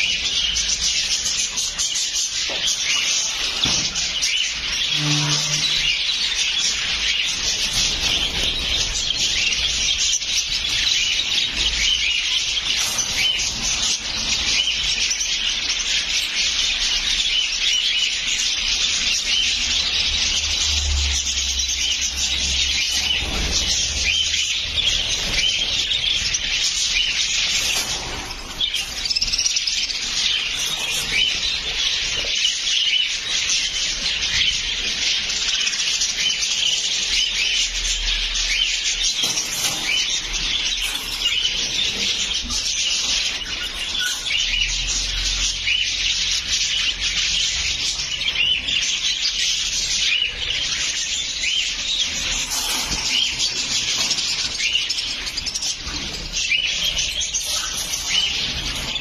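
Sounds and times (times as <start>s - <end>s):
budgerigars chirping: 0.0s - 59.0s.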